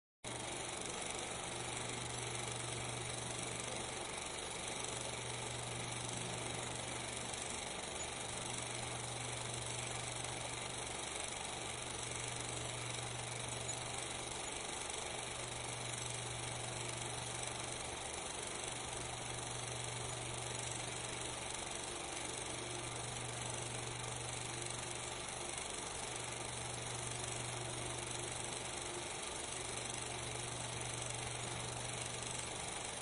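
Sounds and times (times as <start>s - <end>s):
film projector humming and rattling: 0.2s - 33.0s.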